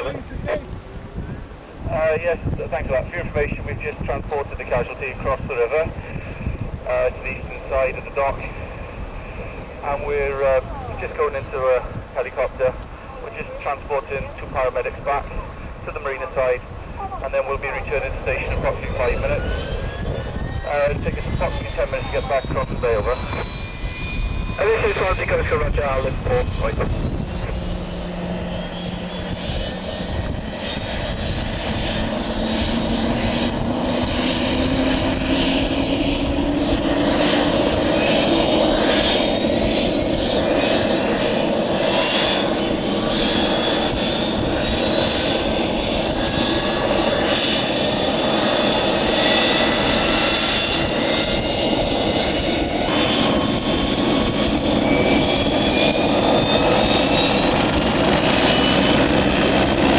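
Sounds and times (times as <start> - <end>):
helicopter turbine whine rising: 0.0 - 59.9.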